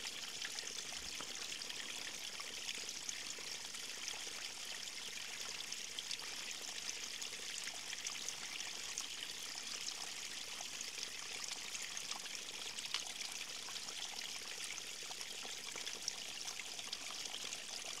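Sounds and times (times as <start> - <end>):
stream of water trickling: 0.0 - 18.0.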